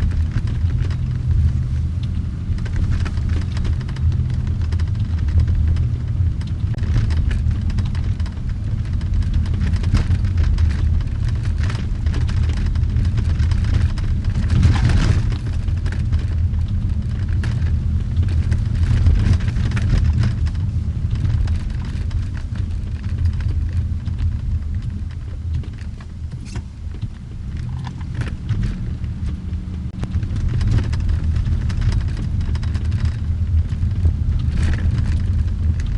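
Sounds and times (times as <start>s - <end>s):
car engine and tyres rumbling: 0.0s - 35.9s.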